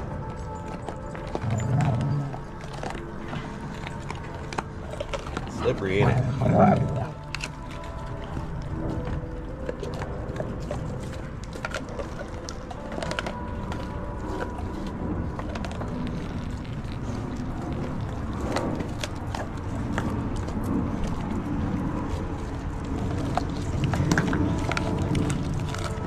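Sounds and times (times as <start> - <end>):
dogs crunching raw fish: 0.0 - 26.0.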